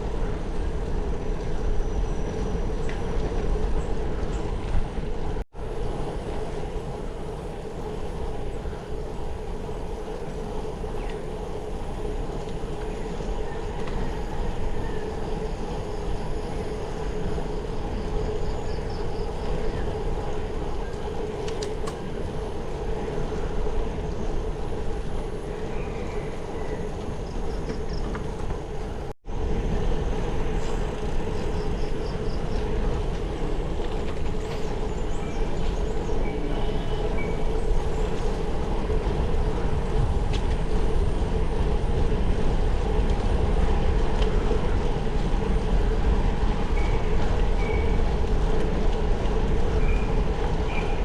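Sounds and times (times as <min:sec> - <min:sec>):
bicycle road noise: 0:00.0 - 0:51.0
wind on microphone: 0:00.0 - 0:51.0.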